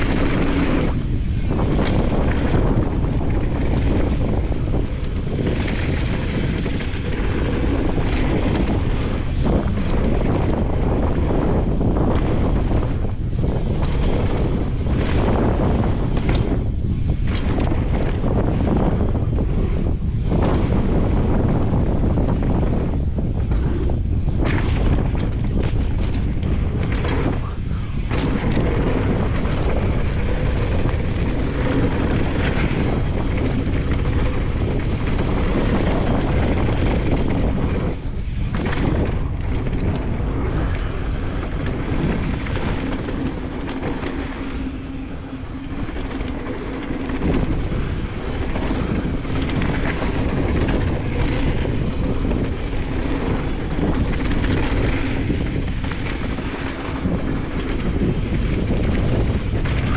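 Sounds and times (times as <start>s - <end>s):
bike clicks and rattles: 0.0s - 59.9s
tyres rumbling on dirt: 0.0s - 59.9s
wind buffeting microphone: 0.0s - 59.9s.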